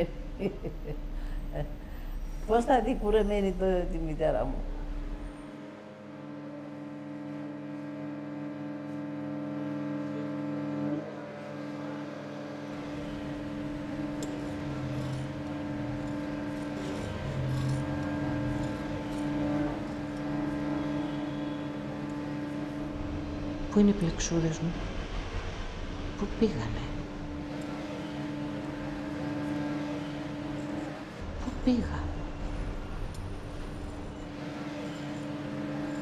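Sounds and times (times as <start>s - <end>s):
droning hum: 0.0s - 36.0s.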